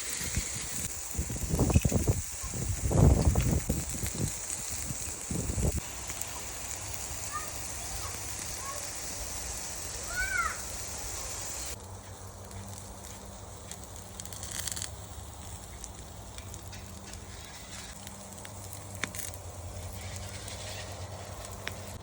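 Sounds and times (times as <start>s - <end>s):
faint clicks and crackle: 0.0s - 22.0s
steady high hiss: 0.0s - 22.0s.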